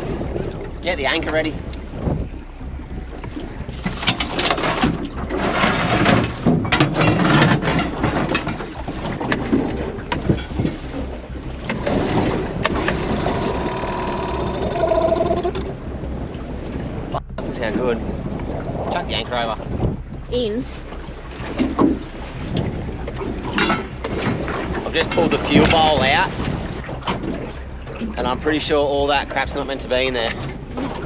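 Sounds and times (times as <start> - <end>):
wind on microphone: 0.0 - 31.0
gear clattering in metal boat: 0.1 - 15.9, 19.7 - 31.0.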